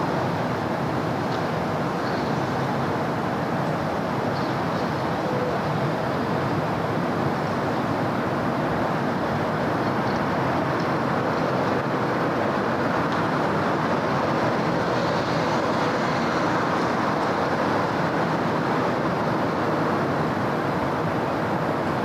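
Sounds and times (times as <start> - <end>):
city traffic: 0.0 - 22.0.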